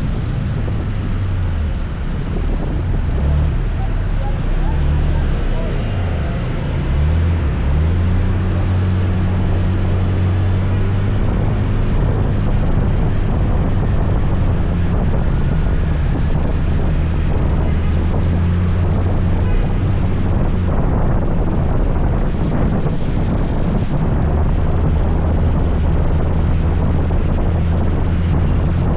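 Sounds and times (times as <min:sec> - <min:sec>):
road noise: 0:00.0 - 0:28.9
wind noise: 0:00.0 - 0:28.9.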